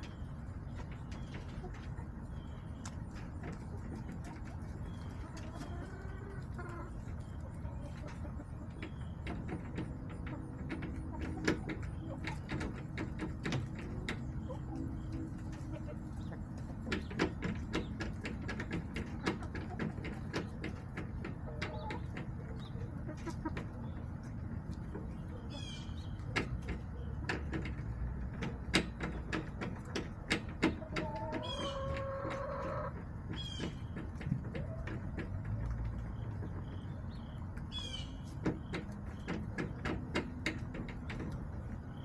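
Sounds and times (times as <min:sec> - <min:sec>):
hens tapping and clicking: 0:00.0 - 0:42.0.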